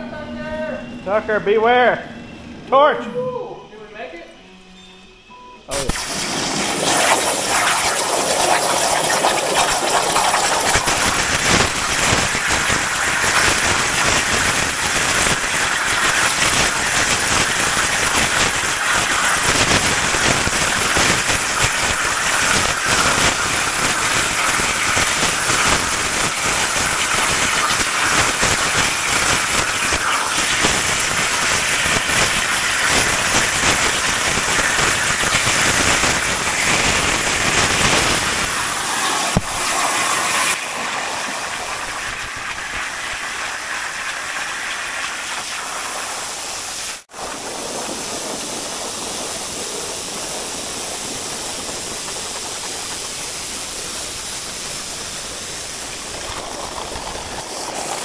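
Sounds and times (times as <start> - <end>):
plasma torch cutting steel: 5.7 - 58.0.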